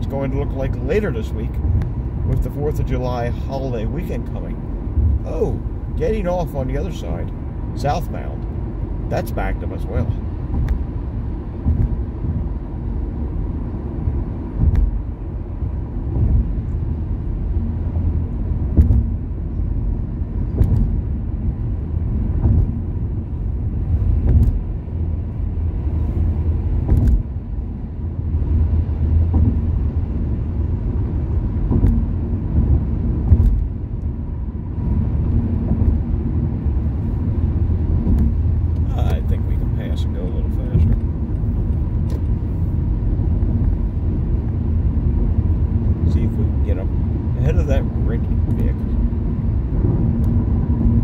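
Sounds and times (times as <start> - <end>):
car driving at highway speed: 0.0 - 51.0.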